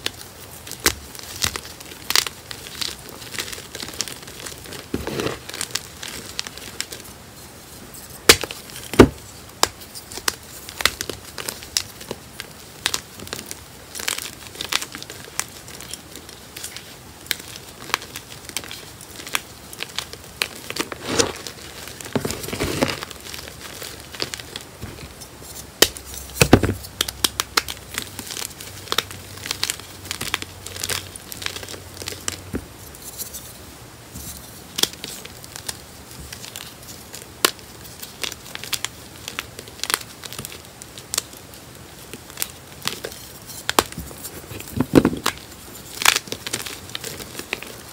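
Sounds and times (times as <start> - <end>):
chalk crackling and snapping: 0.0 - 7.2, 7.9 - 47.9.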